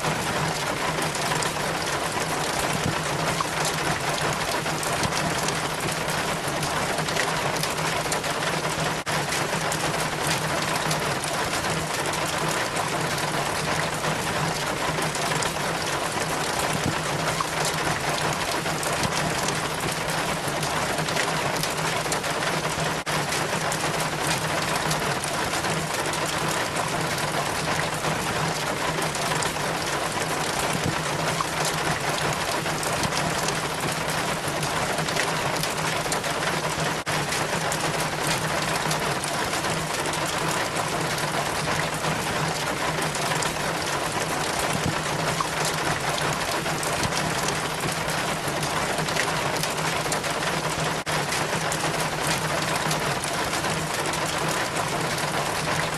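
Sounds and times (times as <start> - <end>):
rainwater trickling down rain chain: 0.0 - 55.9.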